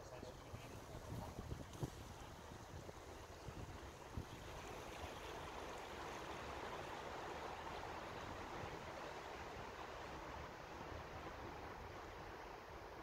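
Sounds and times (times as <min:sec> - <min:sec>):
faint steady rushing noise: 0:00.0 - 0:13.0.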